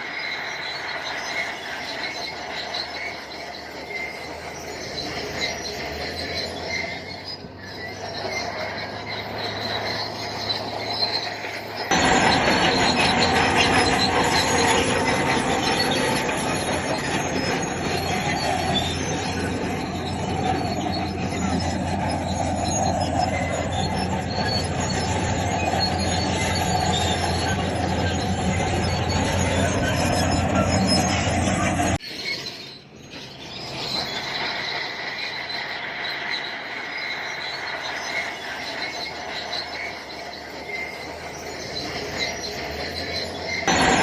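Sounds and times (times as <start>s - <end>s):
bulldozer diesel engine running: 0.0s - 44.0s
crawler tracks squealing and clanking: 0.0s - 44.0s.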